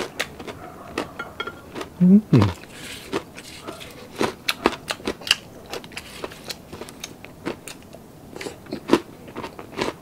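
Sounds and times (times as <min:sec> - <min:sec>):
person chewing crispy food: 0:00.0 - 0:10.0.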